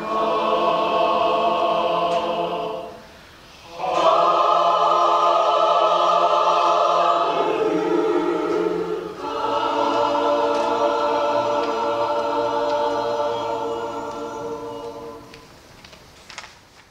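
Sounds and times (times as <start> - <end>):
choir holding chords: 0.0 - 15.6.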